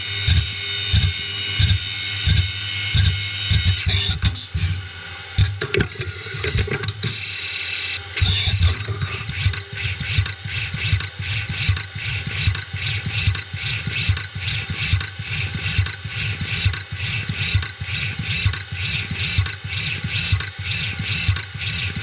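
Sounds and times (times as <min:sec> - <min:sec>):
milling machine cutting metal: 0:00.0 - 0:22.0.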